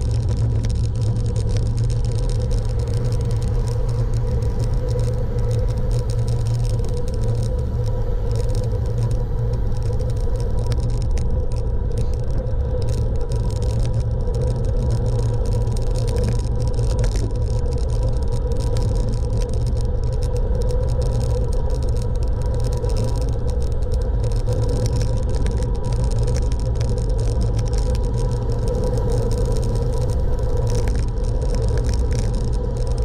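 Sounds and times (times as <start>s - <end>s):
faint constant hum: 0.0s - 33.0s
wind and road noise: 0.0s - 33.0s.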